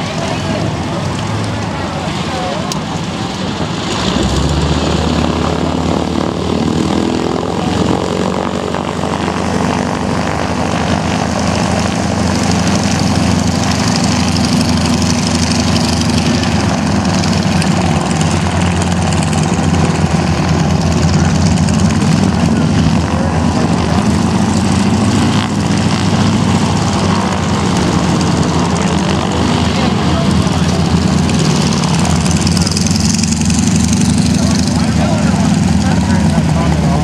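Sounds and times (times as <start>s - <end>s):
aircraft engine drone: 0.0s - 37.0s.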